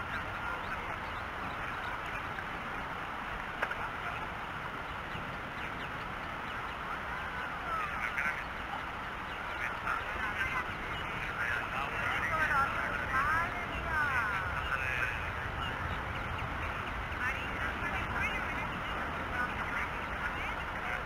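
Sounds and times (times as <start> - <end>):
water birds calling: 0.0 - 21.0
wind and water hiss: 0.0 - 21.0.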